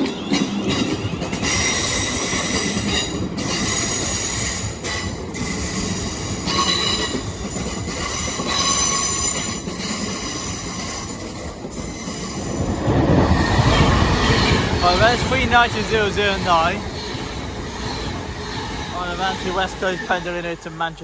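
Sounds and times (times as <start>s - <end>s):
train wheels squealing: 0.0s - 20.9s
electric train rumbling on rails: 0.0s - 21.0s.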